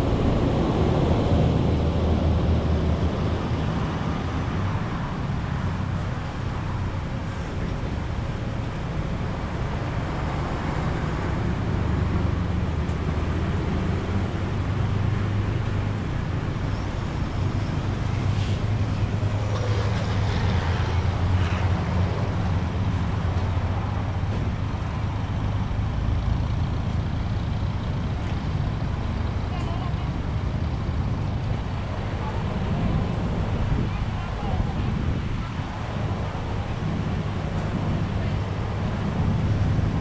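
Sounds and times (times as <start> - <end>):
diesel truck engine rumbling: 0.0 - 40.0
traffic noise: 0.0 - 40.0.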